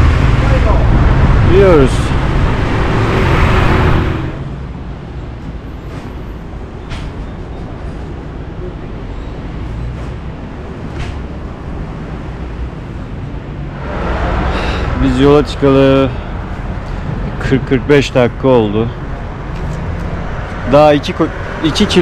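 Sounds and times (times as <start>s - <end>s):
cars passing with low rumble: 0.0s - 22.0s.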